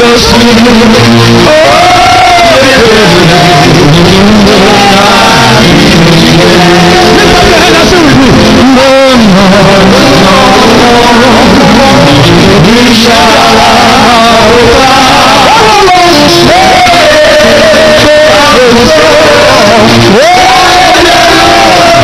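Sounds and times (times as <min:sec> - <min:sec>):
band playing church music: 0:00.0 - 0:22.0
person singing: 0:00.0 - 0:22.0.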